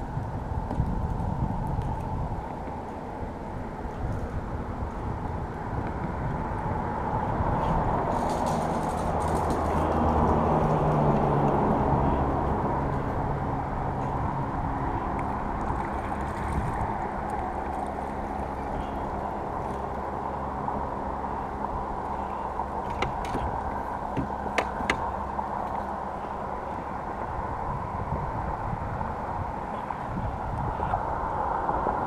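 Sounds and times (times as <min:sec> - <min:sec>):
engine rumble: 0:00.0 - 0:32.0.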